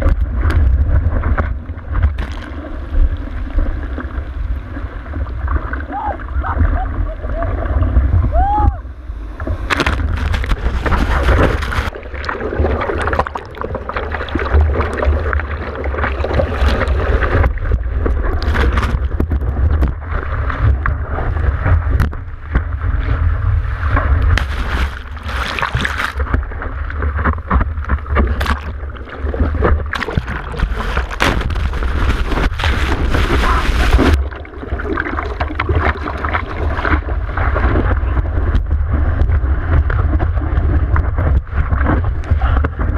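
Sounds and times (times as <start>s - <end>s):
deep rumble of water: 0.0s - 42.9s
whitewater rushing and splashing: 0.6s - 19.0s, 23.2s - 42.9s.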